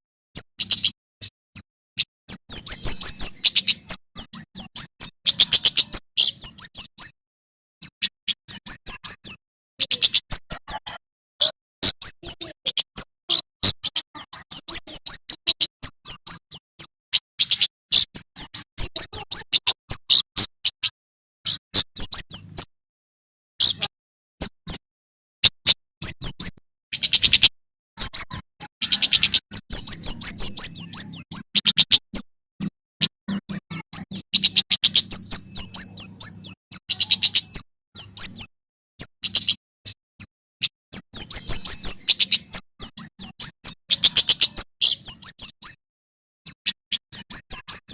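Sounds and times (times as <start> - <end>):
bird singing sharp high chirps: 0.4 - 7.2, 7.8 - 22.7, 23.6 - 24.8, 25.4 - 45.8, 46.5 - 47.9.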